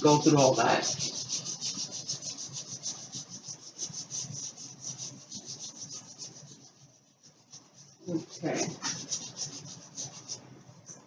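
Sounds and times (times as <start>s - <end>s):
rubbing on bare wood: 0.0s - 11.0s.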